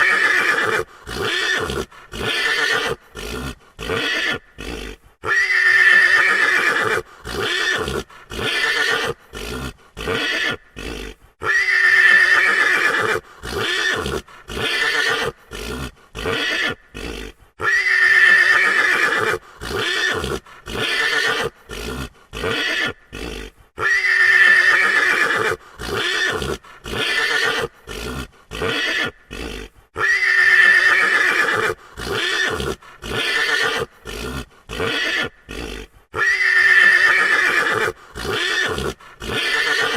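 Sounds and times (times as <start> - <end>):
horse whinnying: 0.0 - 39.9.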